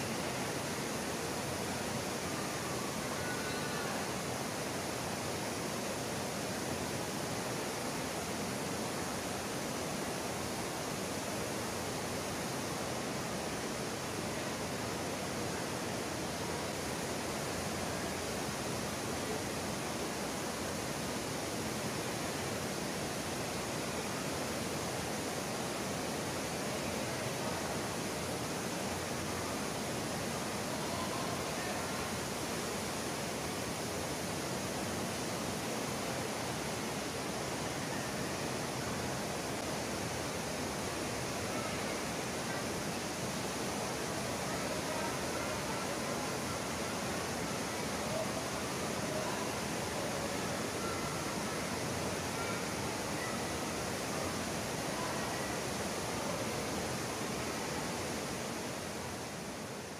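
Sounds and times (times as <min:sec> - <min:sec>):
ceiling fan rushing air: 0:00.0 - 0:59.9.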